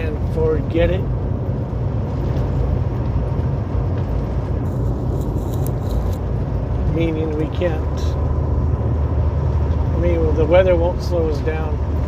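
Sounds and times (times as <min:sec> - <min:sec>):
truck engine and tyres droning: 0:00.0 - 0:12.0.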